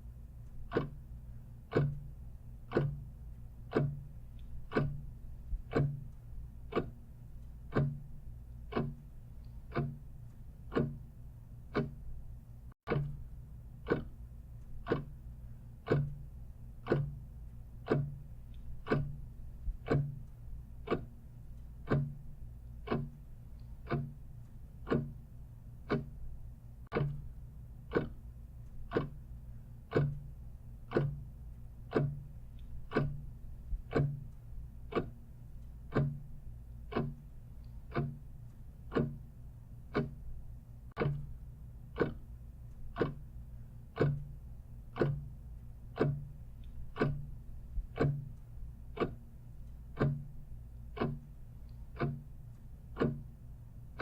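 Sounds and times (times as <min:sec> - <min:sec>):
clock ticking: 0:00.0 - 0:54.0
faint low hum: 0:00.0 - 0:54.0.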